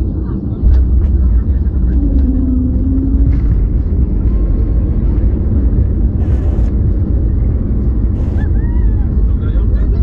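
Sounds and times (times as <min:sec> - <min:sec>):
airliner rolling on runway: 0:00.0 - 0:10.0.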